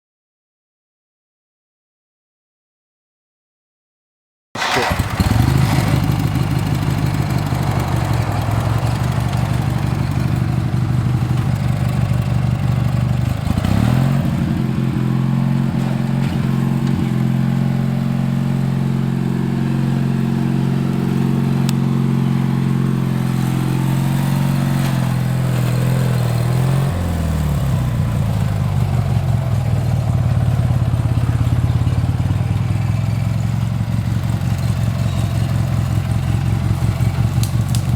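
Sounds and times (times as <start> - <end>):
lawn tractor engine running: 4.6 - 37.9.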